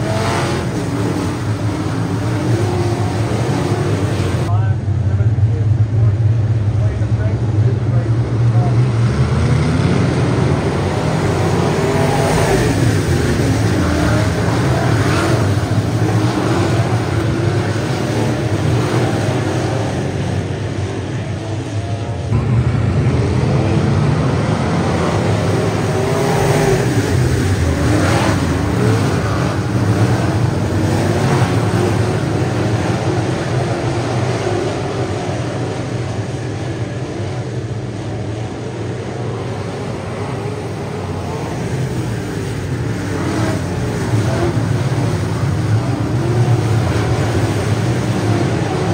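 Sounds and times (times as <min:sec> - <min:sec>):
race car engines passing: 0:00.0 - 0:48.9.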